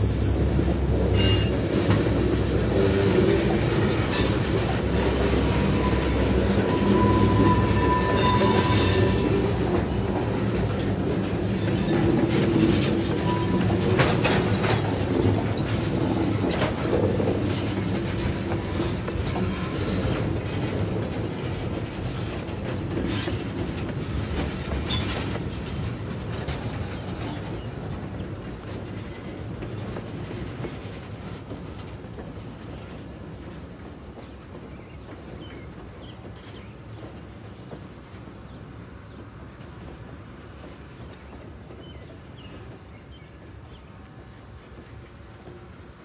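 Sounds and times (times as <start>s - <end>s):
freight train rolling past: 0.0s - 46.0s
wheels clacking over rail joints: 0.1s - 43.3s.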